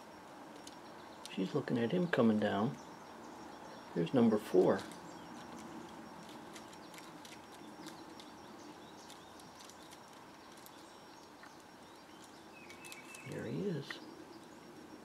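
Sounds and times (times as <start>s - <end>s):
soft outdoor background: 0.0s - 15.0s.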